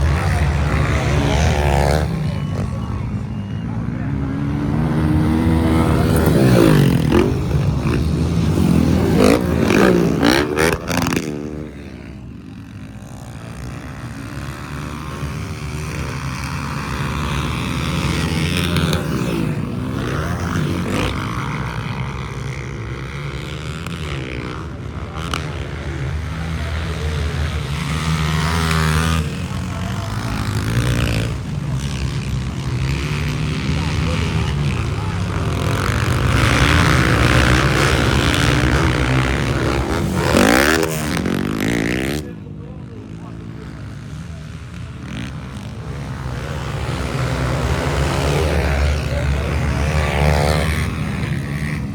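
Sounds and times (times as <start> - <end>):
motorcycle engines revving: 0.0 - 51.9.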